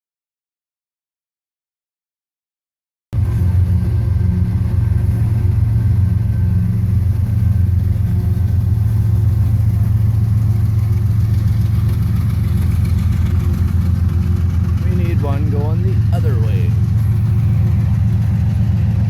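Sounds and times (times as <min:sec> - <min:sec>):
diesel locomotive drone: 0:03.2 - 0:19.0.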